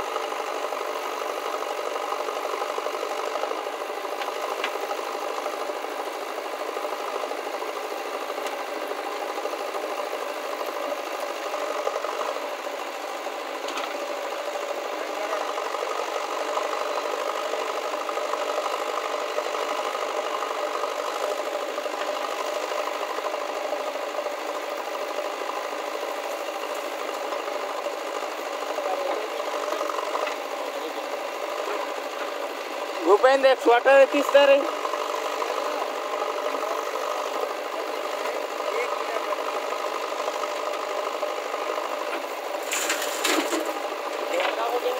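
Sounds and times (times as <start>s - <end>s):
diesel engine under load: 0.0s - 44.9s.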